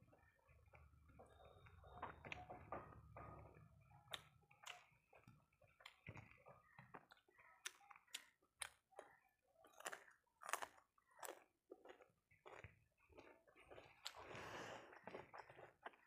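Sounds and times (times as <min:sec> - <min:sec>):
person chewing food: 0:00.1 - 0:16.0.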